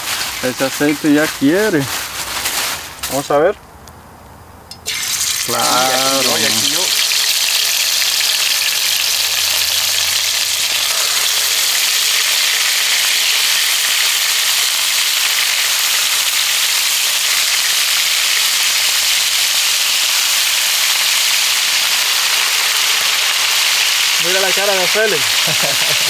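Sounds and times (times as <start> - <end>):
meat sizzling in hot oil: 4.8 - 26.0.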